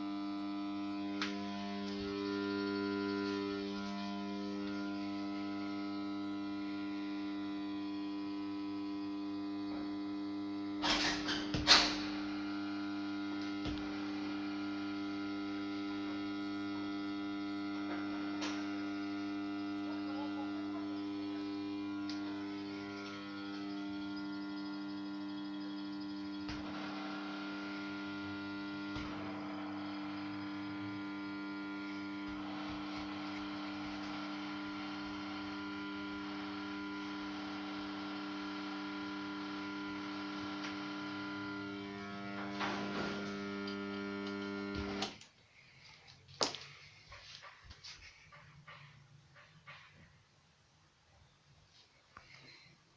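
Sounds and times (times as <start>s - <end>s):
ballast mains hum: 0.0s - 52.9s.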